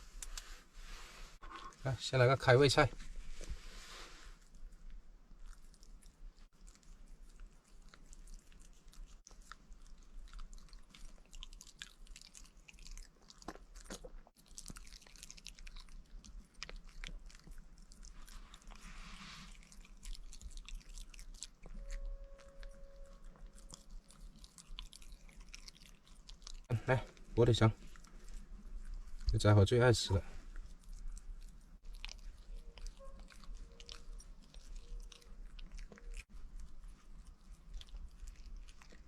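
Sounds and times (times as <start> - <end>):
pet chewing and crunching food: 1.4 - 39.0.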